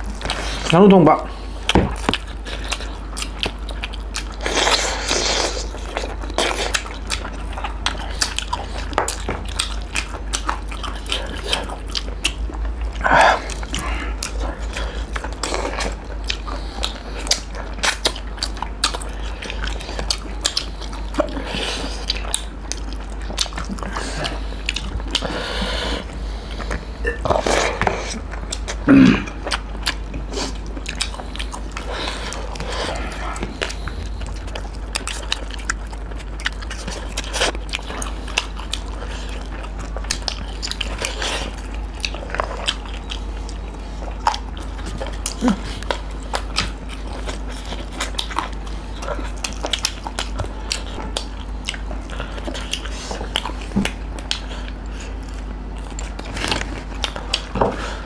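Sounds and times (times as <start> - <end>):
chewing crunchy chicken wings: 0.0 - 58.0
steady low hum: 0.0 - 58.0.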